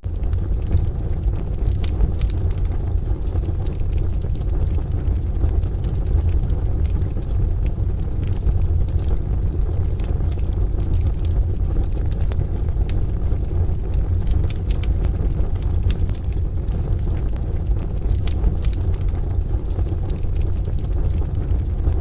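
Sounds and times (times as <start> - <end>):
deep low rumble: 0.0 - 22.0
wood stove fire crackling: 0.0 - 22.0.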